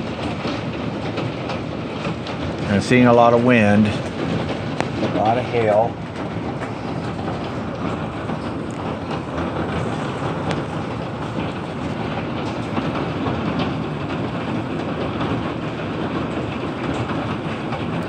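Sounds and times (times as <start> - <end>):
hail clattering: 0.0 - 18.0
storm wind rushing: 0.0 - 18.0.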